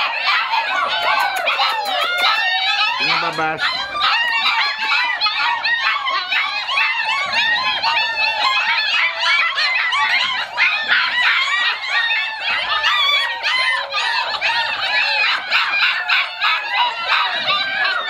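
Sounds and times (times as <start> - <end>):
puppies yelping and whining: 0.0 - 18.0.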